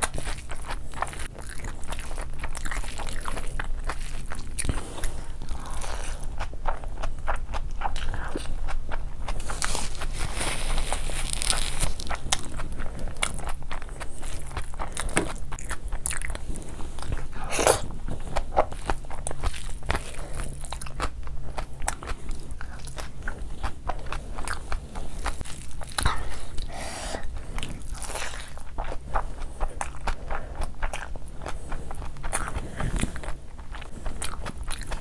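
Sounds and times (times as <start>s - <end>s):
person chewing and crunching food: 0.0s - 35.0s.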